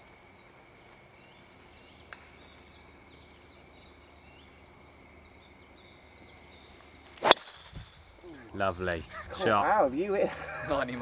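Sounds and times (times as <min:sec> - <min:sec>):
high insect hum: 0:00.0 - 0:11.0.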